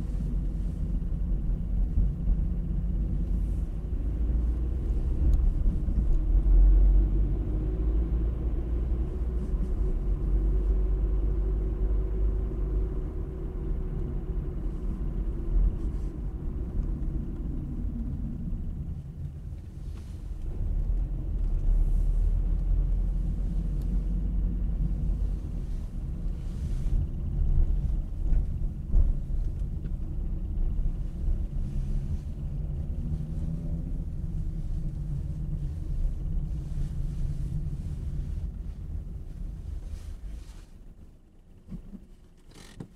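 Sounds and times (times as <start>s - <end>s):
engine and road rumble: 0.0s - 42.9s
faint engine hum: 0.0s - 42.9s.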